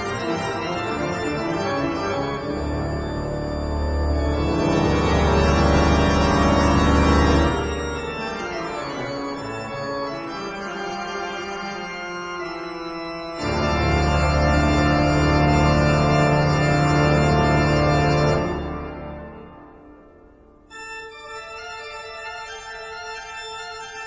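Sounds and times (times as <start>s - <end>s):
organ chords: 0.0s - 24.0s.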